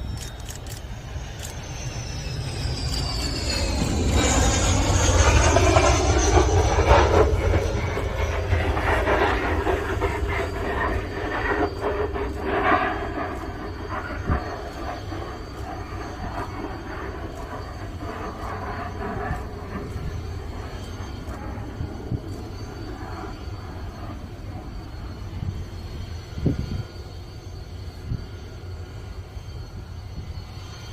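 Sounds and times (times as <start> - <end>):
jet engine rumbling: 0.0 - 30.9
jet whine bending downward: 0.0 - 30.9.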